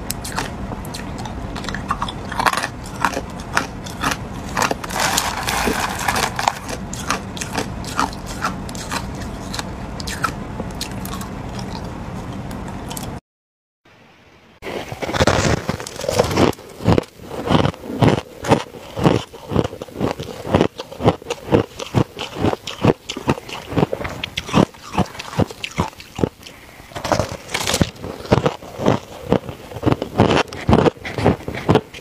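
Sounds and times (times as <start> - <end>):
person chewing hard ice: 0.0 - 13.1, 14.6 - 32.0.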